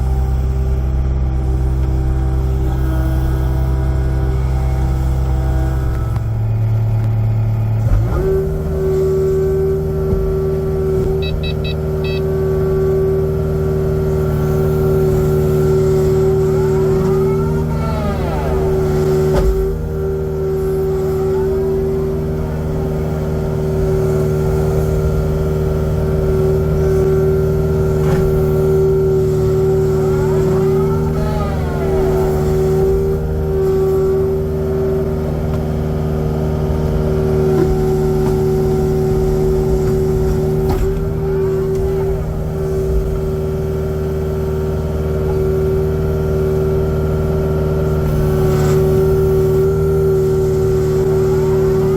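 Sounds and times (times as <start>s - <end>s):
excavator diesel engine: 0.0s - 51.9s.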